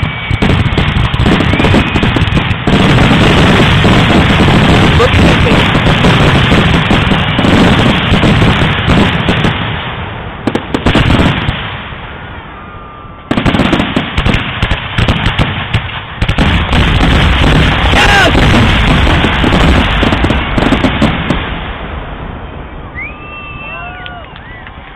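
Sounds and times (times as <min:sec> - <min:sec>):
fireworks bursting and crackling: 0:00.0 - 0:24.9
rising fireworks whistles: 0:00.0 - 0:24.9.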